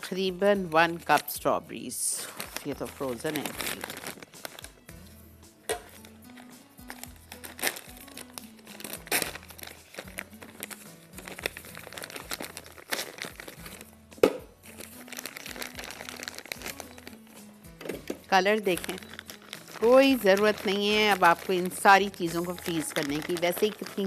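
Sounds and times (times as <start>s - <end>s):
soft background music: 0.0s - 24.0s
plastic packet crinkling: 2.2s - 4.8s, 5.9s - 14.0s, 14.6s - 24.0s.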